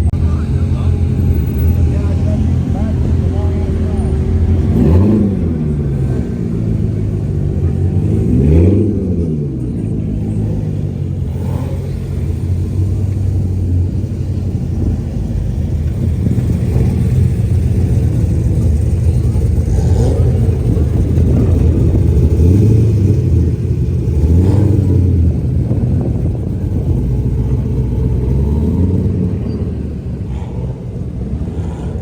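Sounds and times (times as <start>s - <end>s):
car engines rumbling: 0.0s - 32.0s
engine revving: 0.0s - 32.0s.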